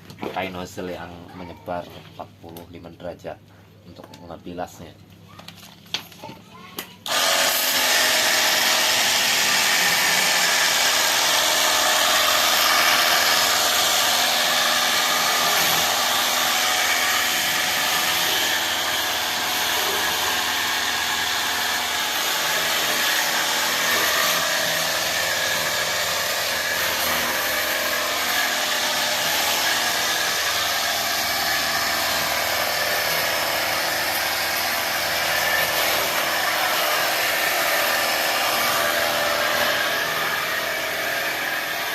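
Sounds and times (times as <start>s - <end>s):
pump motor humming: 7.0s - 41.9s.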